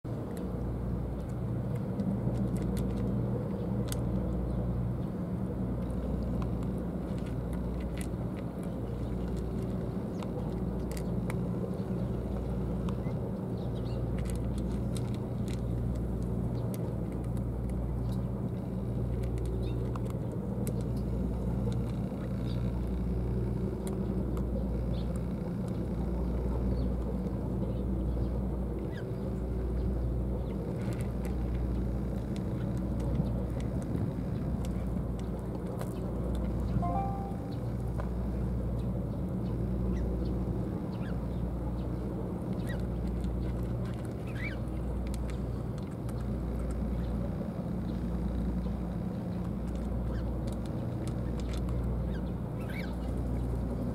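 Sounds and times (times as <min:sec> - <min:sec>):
low mechanical hum: 0:00.1 - 0:53.9
cats crunching dry kibble: 0:00.2 - 0:53.9.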